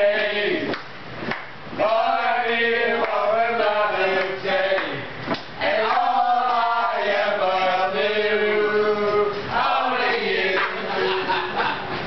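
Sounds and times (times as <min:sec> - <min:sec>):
men singing together: 0:00.0 - 0:00.7, 0:01.8 - 0:12.0.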